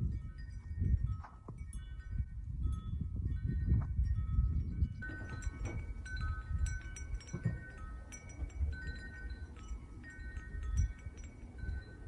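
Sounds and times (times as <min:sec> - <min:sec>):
wind chimes tinkling: 0:00.0 - 0:12.0
wind rumbling on microphone: 0:00.0 - 0:12.0.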